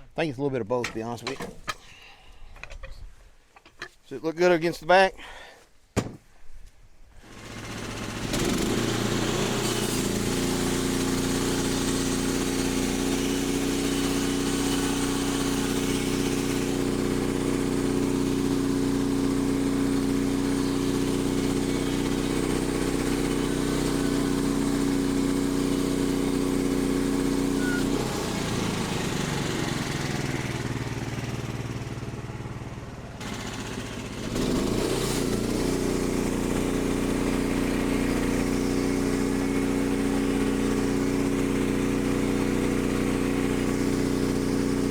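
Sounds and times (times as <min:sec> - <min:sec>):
sawmill gasoline engine running: 0:07.2 - 0:44.9.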